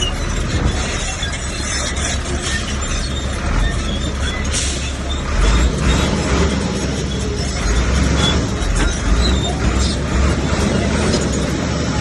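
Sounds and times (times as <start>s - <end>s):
bulldozer diesel engine rumbling: 0.0s - 12.0s.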